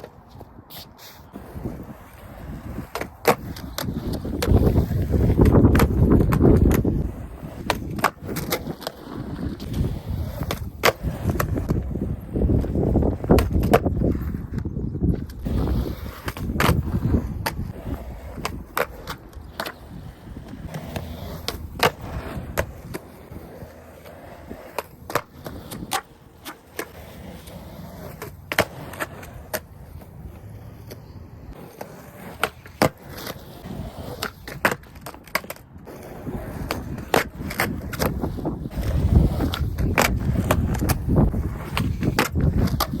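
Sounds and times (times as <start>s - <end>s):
skateboard clacking on ground: 0.0s - 43.0s
skateboard wheels rumbling: 0.0s - 43.0s.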